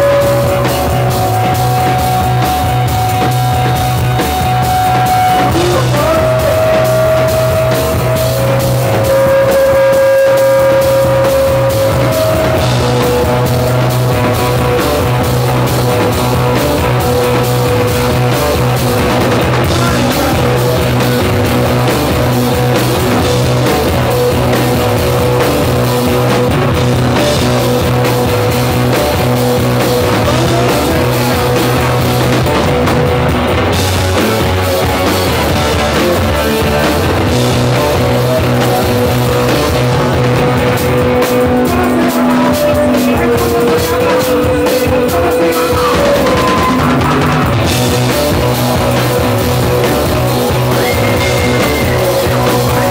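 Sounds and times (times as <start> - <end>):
bass guitar: 0.0 - 52.9
drum kit: 0.0 - 52.9
electric guitars: 0.0 - 52.9.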